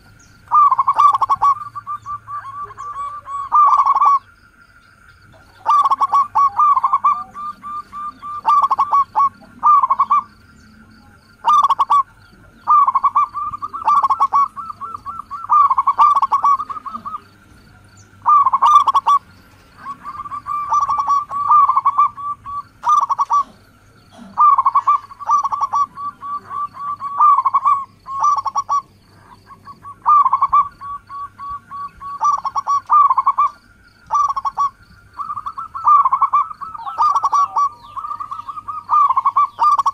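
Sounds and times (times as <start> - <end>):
dove cooing: 0.0 - 4.4, 5.0 - 39.9.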